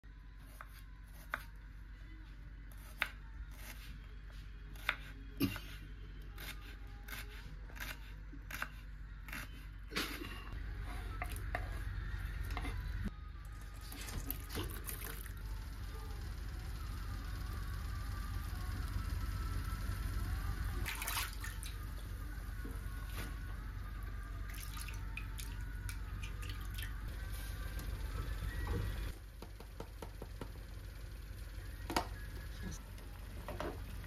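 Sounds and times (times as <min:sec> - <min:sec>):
steady low hum: 0:00.1 - 0:34.0.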